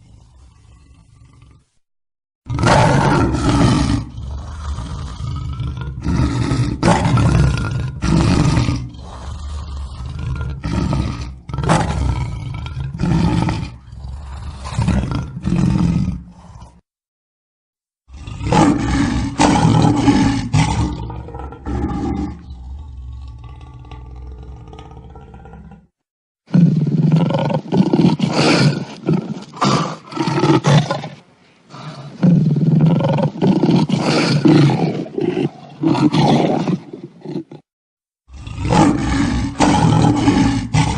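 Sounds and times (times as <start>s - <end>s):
lion roaring: 2.5s - 16.8s, 18.1s - 25.9s, 26.5s - 37.7s, 38.3s - 40.9s.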